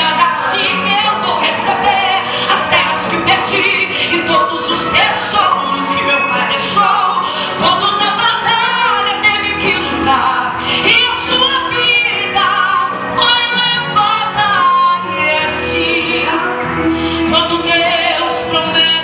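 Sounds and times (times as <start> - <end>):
live instrumental accompaniment: 0.0 - 19.0
woman singing into microphone: 0.0 - 19.0.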